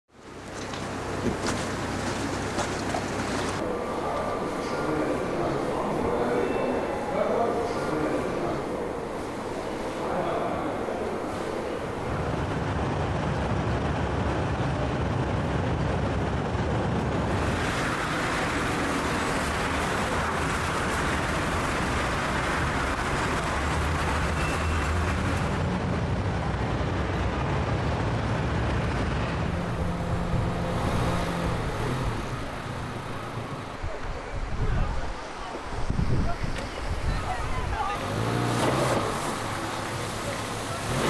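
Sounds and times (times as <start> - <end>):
traffic noise: 0.1 - 41.0
low engine rumble: 7.9 - 41.0.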